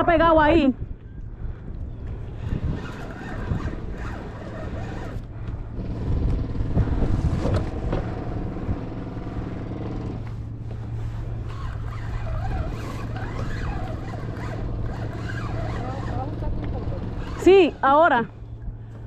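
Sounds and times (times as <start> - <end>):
motorboat engine humming: 0.9 - 19.0
stronger engine drone: 2.2 - 19.0.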